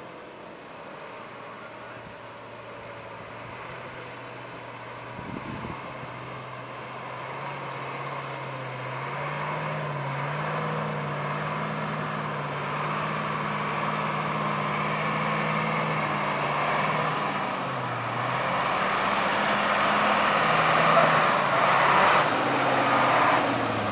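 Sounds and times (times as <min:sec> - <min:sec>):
truck diesel engine under load: 0:00.0 - 0:23.9.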